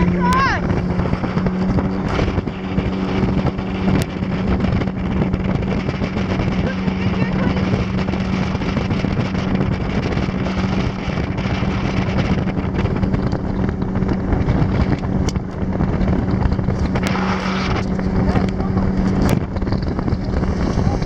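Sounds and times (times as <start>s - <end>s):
motorboat engine running: 0.0s - 21.0s
water rushing past hull: 0.0s - 21.0s
wind buffeting microphone: 0.0s - 21.0s.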